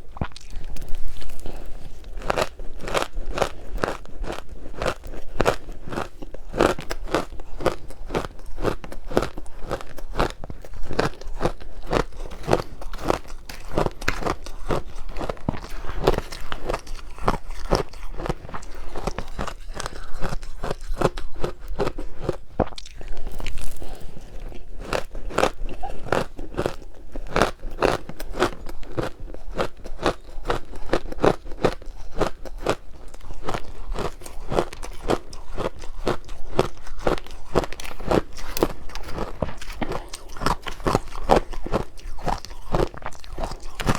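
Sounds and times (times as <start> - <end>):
crunching and chewing ice: 0.0 - 43.9.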